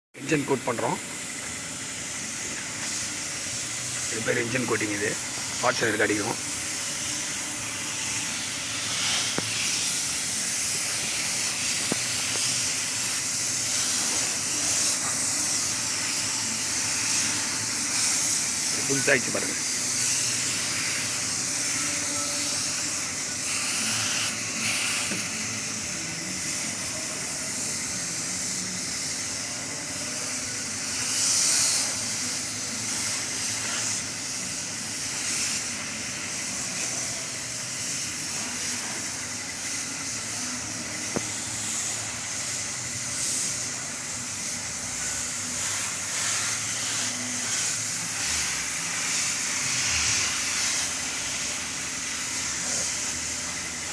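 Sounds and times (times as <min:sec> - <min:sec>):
spray can hissing: 0:00.2 - 0:53.9.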